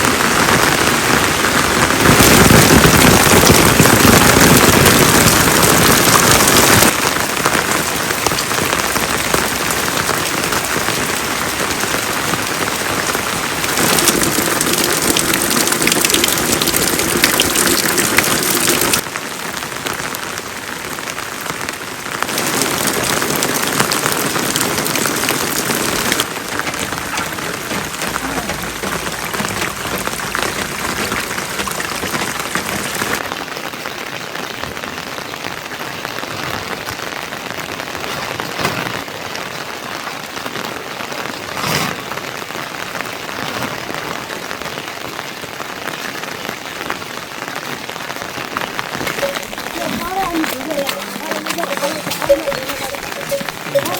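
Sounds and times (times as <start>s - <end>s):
rain pattering on surfaces: 0.0s - 53.9s.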